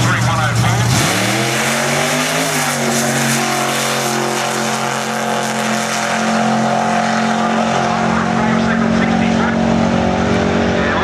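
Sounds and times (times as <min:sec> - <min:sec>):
drag car engine at full throttle: 0:00.0 - 0:11.0.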